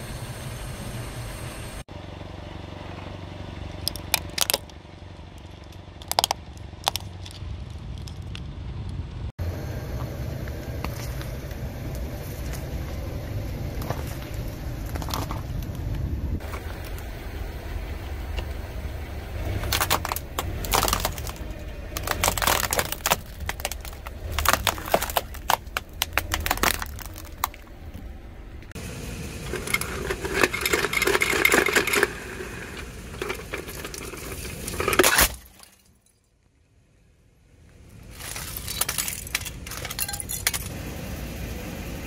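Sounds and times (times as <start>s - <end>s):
low rumble: 0.0s - 35.0s
tire crushing brittle objects: 2.9s - 9.3s, 10.0s - 36.5s, 37.5s - 40.8s.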